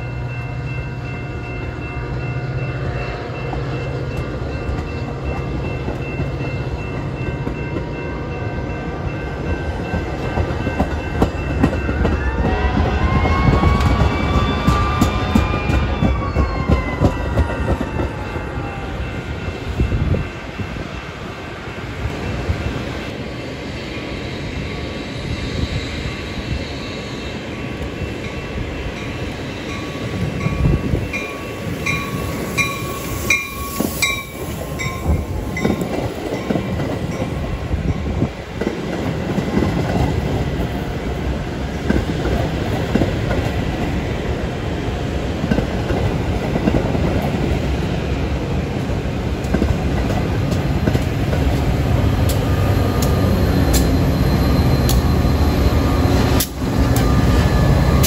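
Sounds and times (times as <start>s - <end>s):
diesel locomotive rumble: 0.0s - 58.0s
train wheels clattering on rails: 3.4s - 8.3s, 9.2s - 21.2s, 27.4s - 58.0s.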